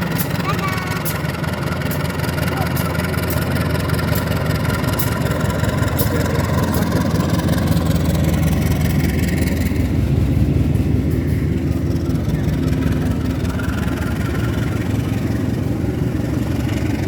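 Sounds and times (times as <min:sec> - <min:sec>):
diesel locomotive engine rumbling: 0:00.0 - 0:17.0
train rattling: 0:00.0 - 0:17.0.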